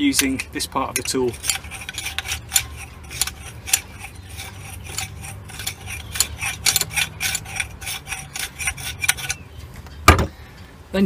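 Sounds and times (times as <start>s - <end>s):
metal-on-metal scraping: 0.0s - 10.0s.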